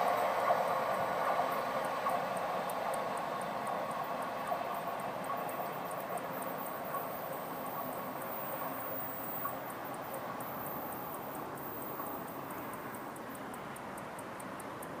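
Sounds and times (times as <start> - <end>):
distant train rumble: 0.0 - 15.0
high-pitched ticking: 0.1 - 15.0.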